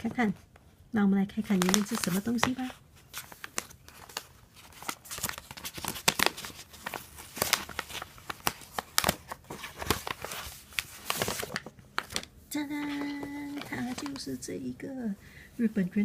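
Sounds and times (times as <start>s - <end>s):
wrapping paper tearing and crinkling: 1.5s - 14.4s.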